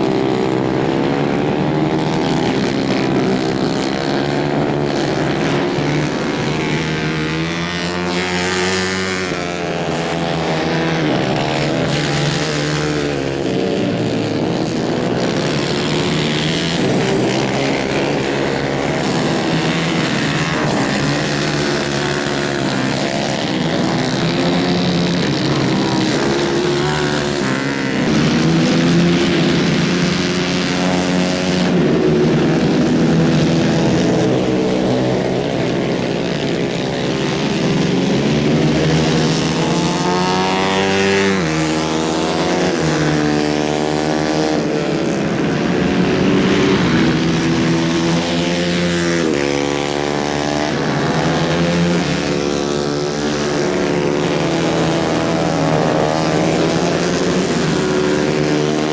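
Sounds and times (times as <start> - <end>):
kart engines revving: 0.0 - 58.9.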